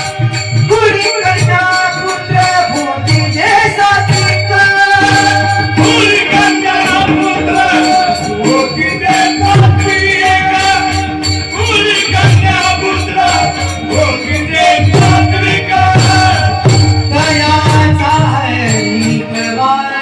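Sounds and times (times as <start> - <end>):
tabla strokes: 0.0 - 19.6
harmonium melody: 0.0 - 20.0
small hand cymbals jingling: 0.0 - 20.0.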